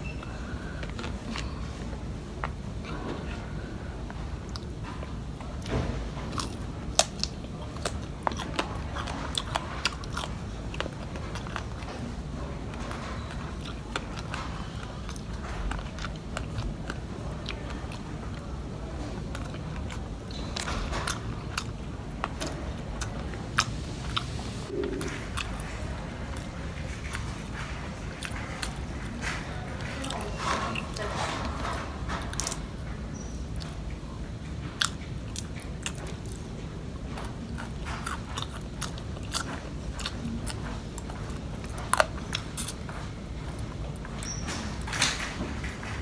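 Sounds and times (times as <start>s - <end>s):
chewing crunchy food: 0.0s - 46.0s
low steady hum: 0.0s - 46.0s.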